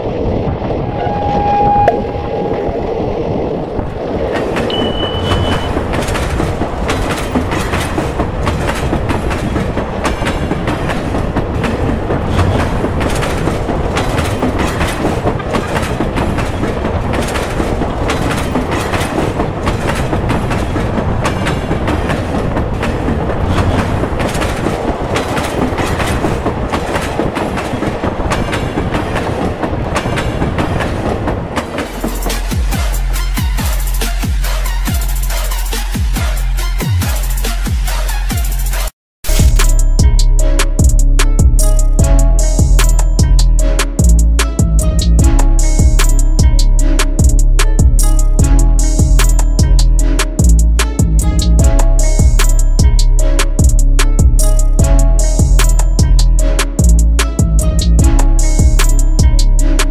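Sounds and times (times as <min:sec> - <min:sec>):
train wheels clattering over joints: 0:04.1 - 0:34.0, 0:40.6 - 0:59.9.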